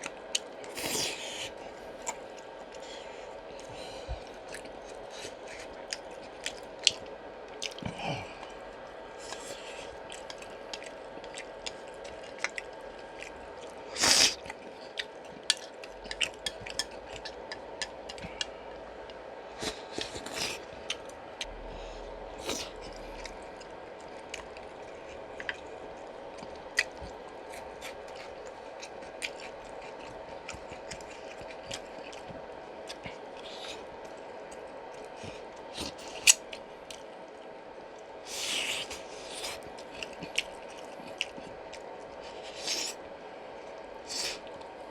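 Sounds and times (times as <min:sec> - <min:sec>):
faint steady hum: 0:00.0 - 0:44.9
wet chewing and clicks: 0:03.5 - 0:07.9, 0:08.8 - 0:21.5, 0:22.4 - 0:38.1, 0:38.8 - 0:43.0.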